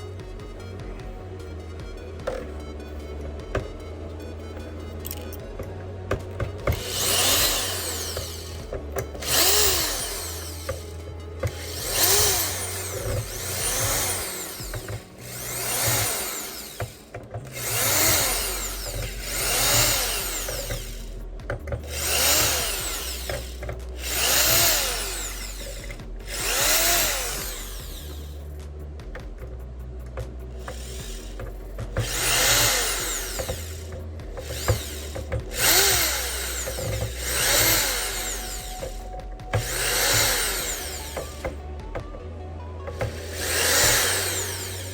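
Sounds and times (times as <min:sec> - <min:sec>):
electric screwdriver whirring: 0:04.4 - 0:28.5, 0:30.2 - 0:42.1, 0:42.9 - 0:44.9.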